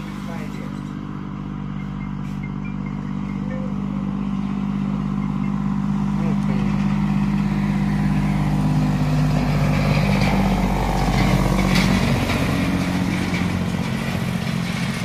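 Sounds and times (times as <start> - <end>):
truck diesel engine passing: 0.0 - 15.0.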